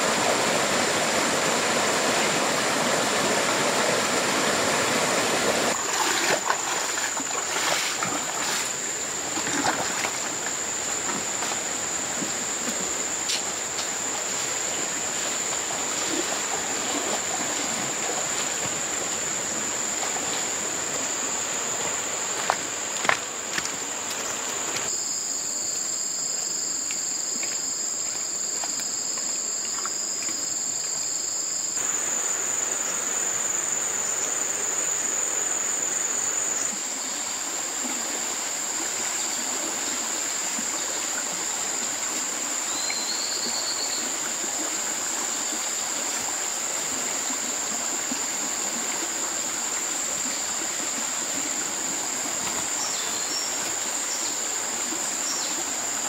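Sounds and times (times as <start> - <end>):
running water: 0.0 - 25.0, 31.7 - 56.0
insects trilling: 0.0 - 56.0.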